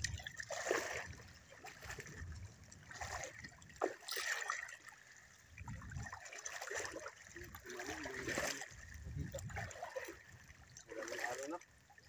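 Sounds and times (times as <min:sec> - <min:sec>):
seawater sloshing around wading legs: 0:00.0 - 0:11.8.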